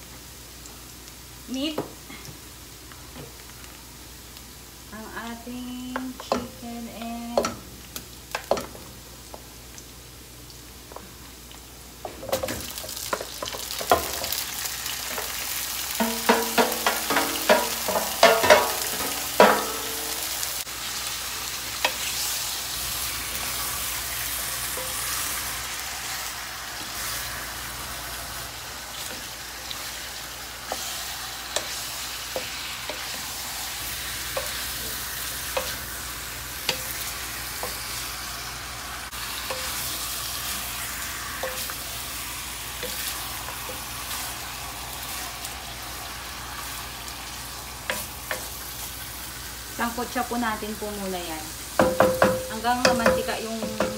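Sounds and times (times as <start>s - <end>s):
meat sizzling in a wok: 0.0s - 53.9s.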